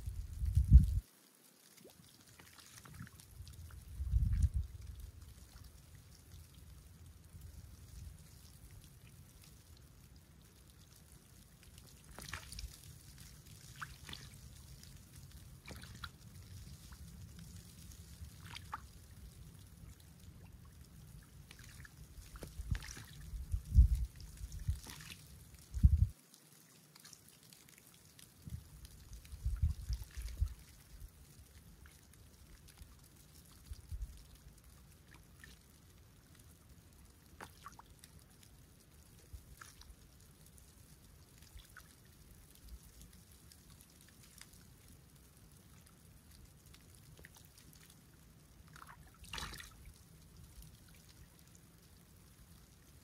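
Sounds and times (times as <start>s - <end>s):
water lapping at shore: 0.8s - 53.0s.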